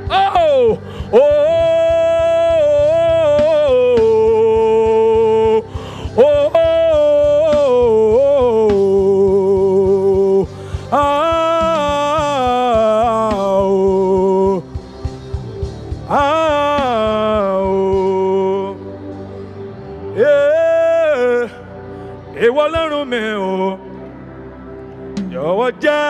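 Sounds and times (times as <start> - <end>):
solo gospel singing: 0.0 - 24.5, 25.2 - 26.0
instrumental backing: 0.0 - 26.0.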